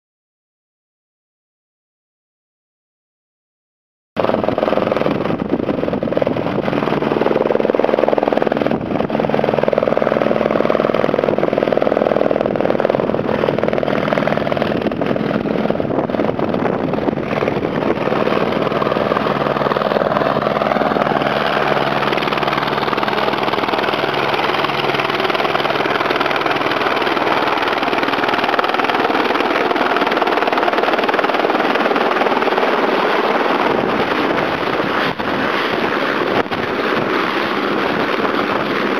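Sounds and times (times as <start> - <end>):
helicopter rotor and engine: 4.2 - 38.9.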